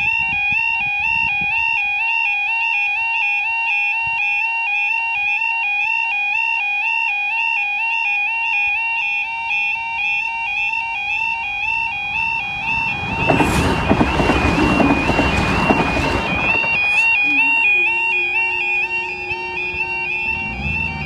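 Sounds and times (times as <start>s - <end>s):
two-tone level crossing alarm: 0.0s - 21.0s.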